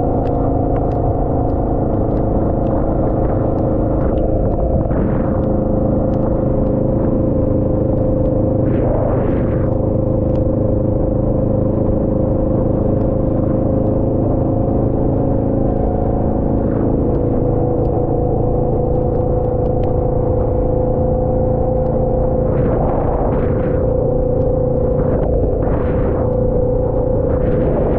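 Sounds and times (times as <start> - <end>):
vehicle engine rumble and whine: 0.0 - 27.9
light ticks: 0.1 - 10.5, 11.7 - 27.9.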